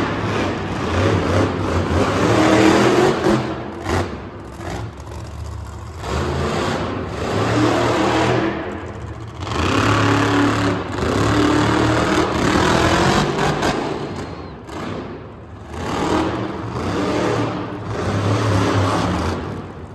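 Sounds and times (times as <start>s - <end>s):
monster truck engine revving: 0.0s - 19.9s.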